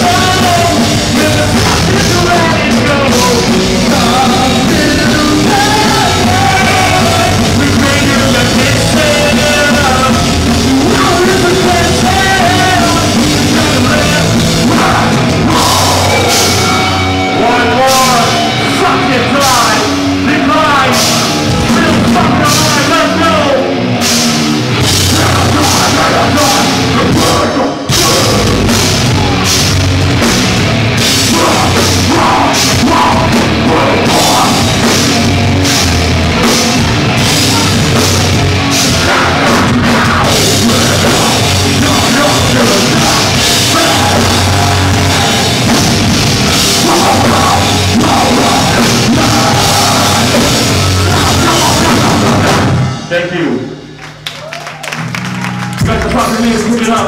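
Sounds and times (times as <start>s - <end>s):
live heavy rock band: 0.0s - 57.0s.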